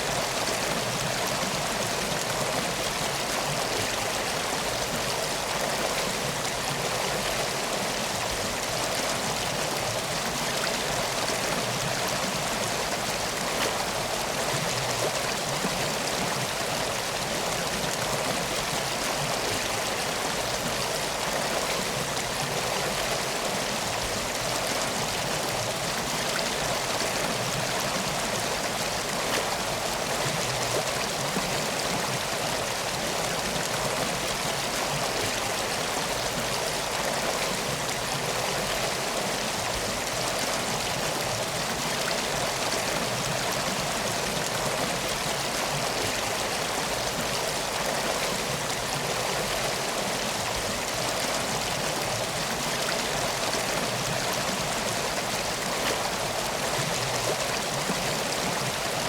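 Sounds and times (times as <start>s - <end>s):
flowing river: 0.0s - 59.0s.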